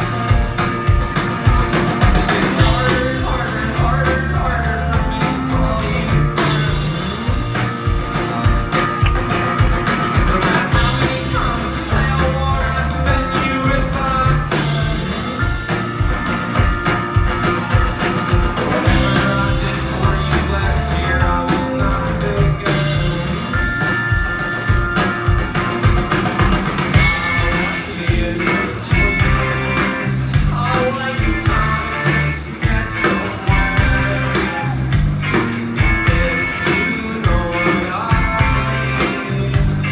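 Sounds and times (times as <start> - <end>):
rock band playing live: 0.0 - 39.9
steady drum beat: 0.0 - 39.9
person singing: 2.0 - 7.9, 10.0 - 16.4, 17.3 - 24.2, 26.9 - 39.9.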